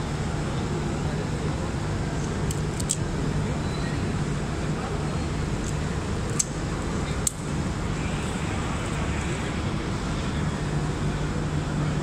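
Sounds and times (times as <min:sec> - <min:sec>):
exhibition hall hum and rumble: 0:00.0 - 0:12.0.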